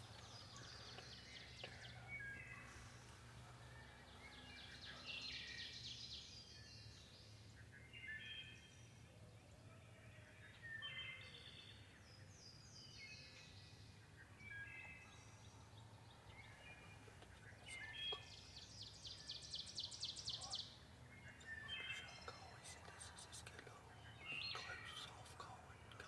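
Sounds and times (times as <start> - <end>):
faint songbirds singing: 0.0 - 26.0.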